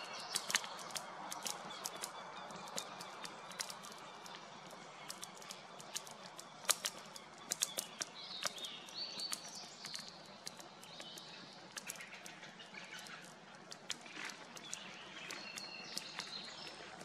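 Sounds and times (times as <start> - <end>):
bird chirping: 0.0 - 17.0
campfire crackling and popping: 0.0 - 17.0.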